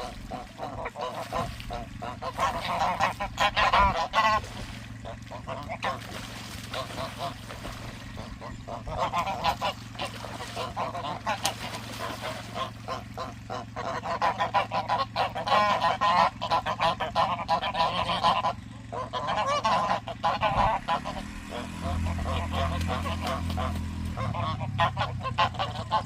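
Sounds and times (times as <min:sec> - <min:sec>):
waterfowl calling: 0:00.0 - 0:26.0.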